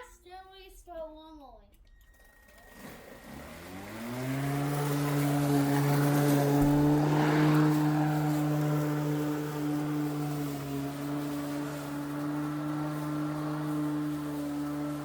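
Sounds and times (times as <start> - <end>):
electric lawn mower motor hum: 2.1 - 15.0.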